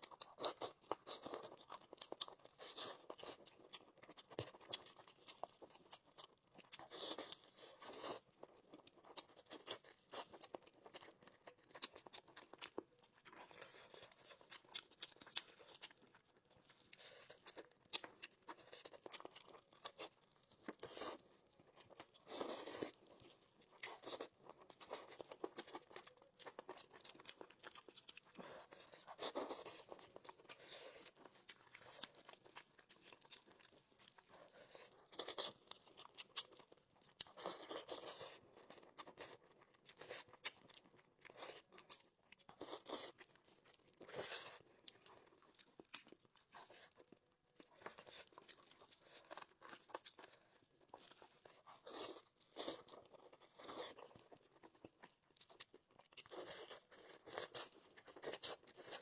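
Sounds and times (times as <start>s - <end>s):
crunching and chewing chicken: 0.0s - 59.0s.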